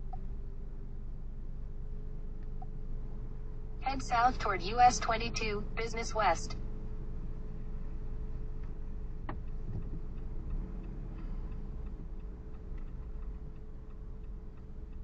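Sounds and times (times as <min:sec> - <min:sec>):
engine and road rumble: 0:00.0 - 0:15.0
turn signal ticking: 0:02.3 - 0:15.0.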